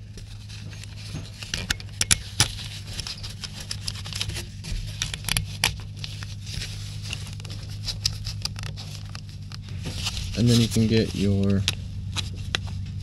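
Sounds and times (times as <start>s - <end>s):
gloves rustling against metal parts: 0.0s - 13.0s.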